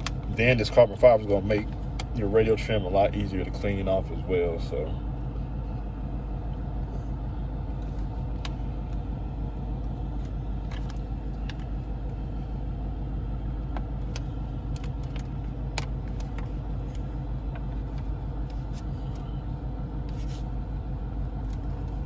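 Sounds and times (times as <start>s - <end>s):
car idling inside cabin: 0.0s - 22.0s.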